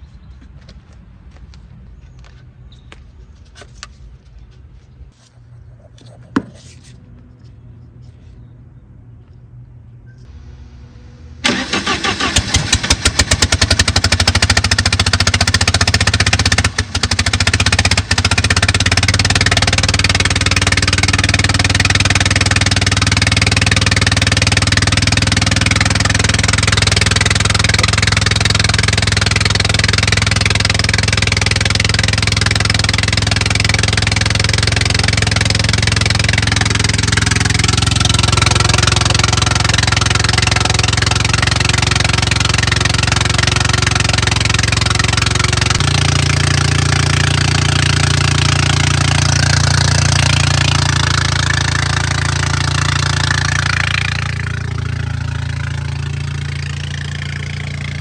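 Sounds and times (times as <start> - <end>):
skid steer engine cranking: 11.4 - 58.0.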